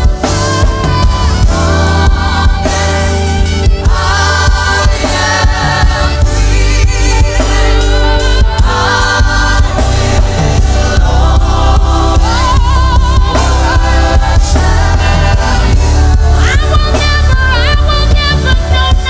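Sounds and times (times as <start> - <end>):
choir singing: 0.0 - 18.6
band with heavy bass and drums: 0.0 - 19.0.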